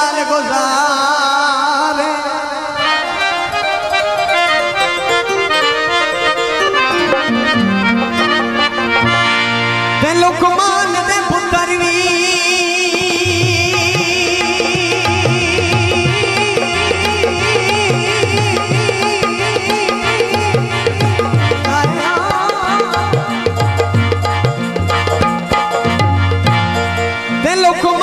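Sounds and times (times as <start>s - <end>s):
harmonium folk melody: 0.0s - 28.0s.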